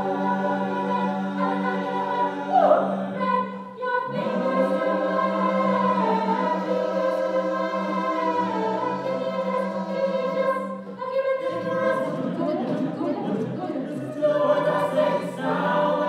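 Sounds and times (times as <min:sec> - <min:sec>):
mixed choir singing chords: 0:00.0 - 0:16.0.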